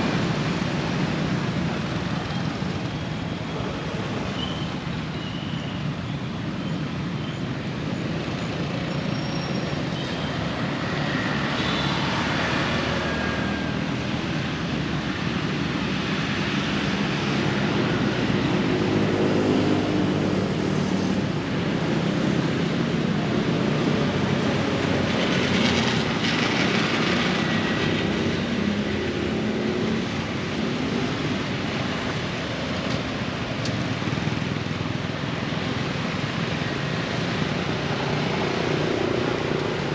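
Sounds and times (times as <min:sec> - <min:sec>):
vehicle engine and traffic noise: 0:00.0 - 0:39.9.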